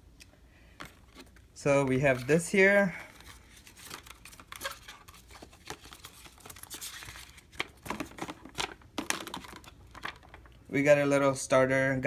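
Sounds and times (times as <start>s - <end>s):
paper and cardboard rustling: 0.8s - 10.5s.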